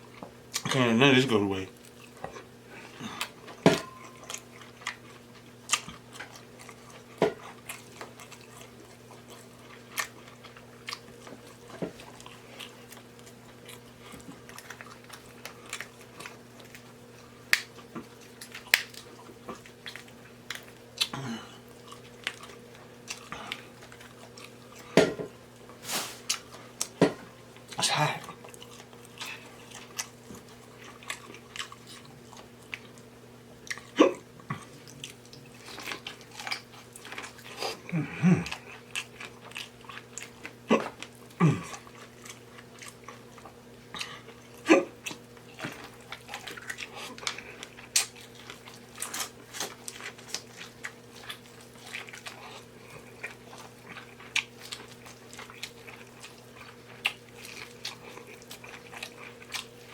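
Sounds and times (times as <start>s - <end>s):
person chewing and lip-smacking: 0.5s - 0.8s, 1.8s - 25.0s, 27.6s - 59.9s.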